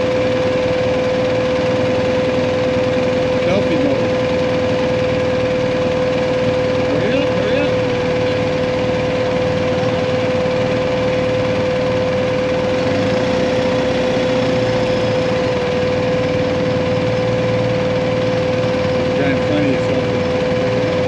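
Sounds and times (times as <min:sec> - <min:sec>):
constant whining tone: 0:00.0 - 0:21.0
motorcycle engine and road hum: 0:00.0 - 0:21.0.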